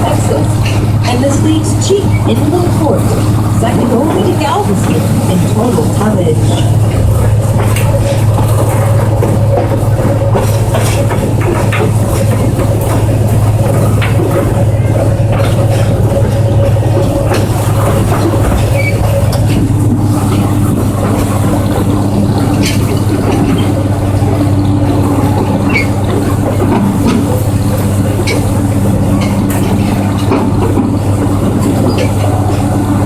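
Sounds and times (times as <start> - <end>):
clicks and rattles: 0.0 - 33.0
train running drone: 0.0 - 33.0.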